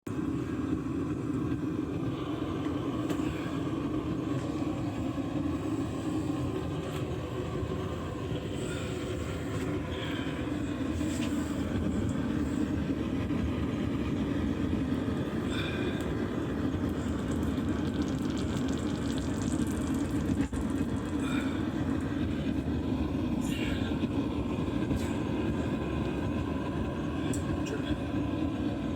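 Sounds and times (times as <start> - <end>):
low rumbling roar: 0.2 - 28.9.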